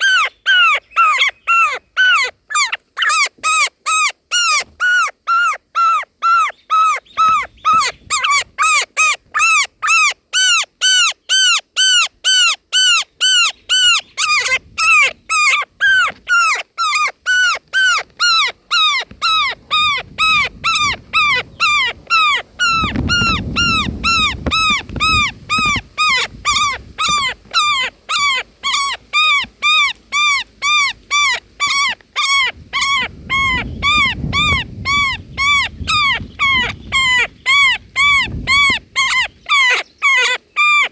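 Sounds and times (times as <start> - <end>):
nestlings begging calls: 0.0 - 40.9.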